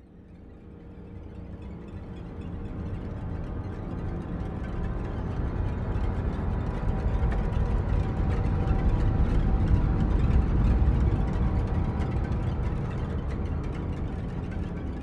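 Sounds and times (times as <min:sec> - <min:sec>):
deep ominous rumbling drone: 0:01.3 - 0:15.0.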